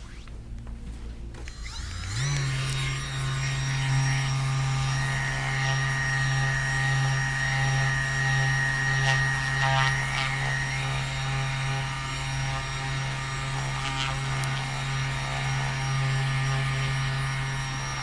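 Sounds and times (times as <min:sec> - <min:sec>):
electric massage tool droning: 0:01.4 - 0:18.0.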